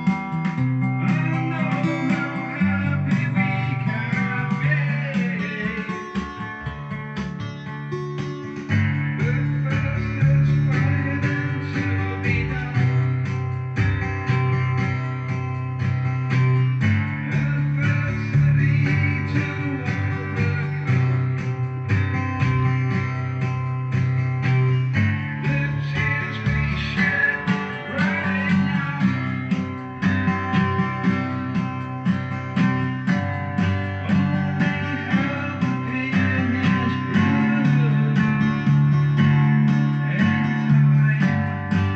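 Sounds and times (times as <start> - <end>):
bass line: 0.0 - 41.9
plucked and strummed guitar: 0.0 - 41.9.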